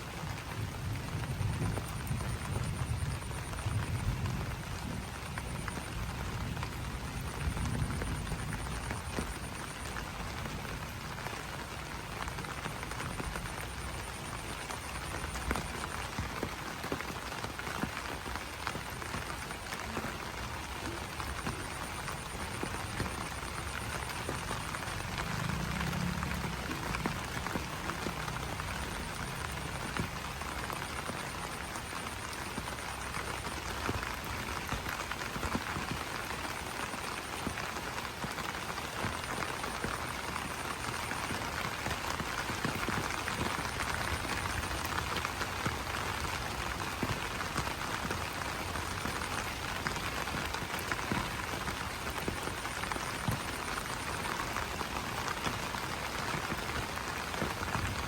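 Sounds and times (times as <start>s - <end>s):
rain pattering on leaves: 0.0s - 58.0s.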